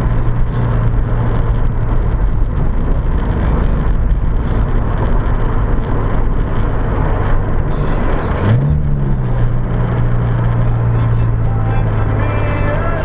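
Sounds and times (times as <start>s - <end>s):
car engine note: 0.0s - 13.0s
road and wind noise in car: 0.0s - 13.0s.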